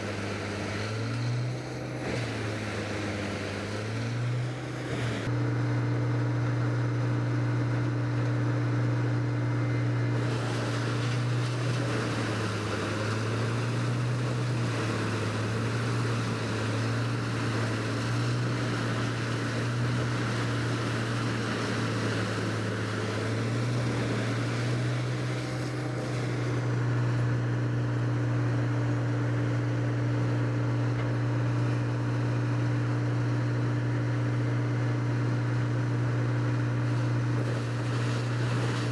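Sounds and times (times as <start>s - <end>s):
large diesel engine running: 0.0s - 38.9s.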